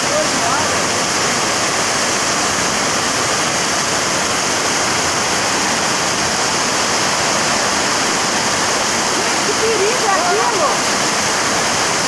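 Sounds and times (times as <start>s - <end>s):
floodwater rushing: 0.0s - 12.0s
heavy rain pouring: 0.0s - 12.0s.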